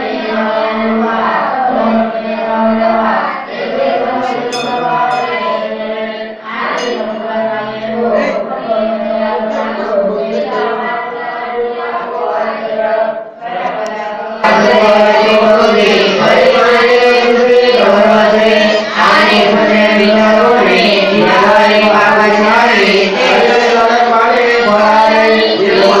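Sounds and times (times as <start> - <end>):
voices chanting together: 0.0 - 26.0.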